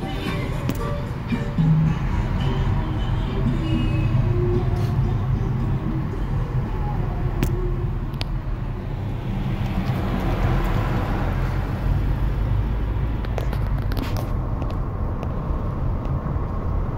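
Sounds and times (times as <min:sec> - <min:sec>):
car engine and tyres rumbling: 0:00.0 - 0:16.9.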